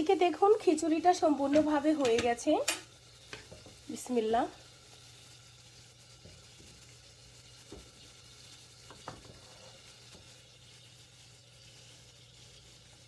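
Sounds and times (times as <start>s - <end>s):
food stirring in a pot: 0.2s - 13.0s.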